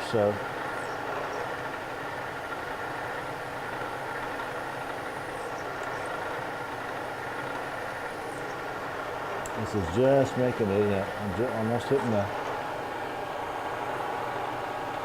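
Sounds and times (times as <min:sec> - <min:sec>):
milling machine running: 0:00.0 - 0:15.0.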